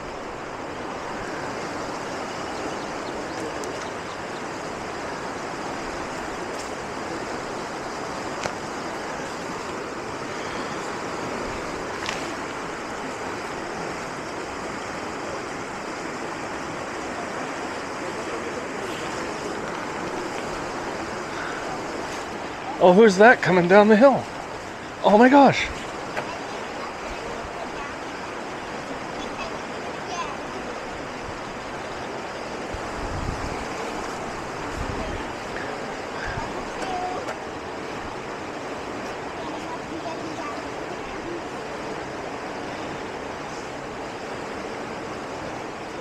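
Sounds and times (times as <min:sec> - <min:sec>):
flowing water rushing: 0:00.0 - 0:46.0.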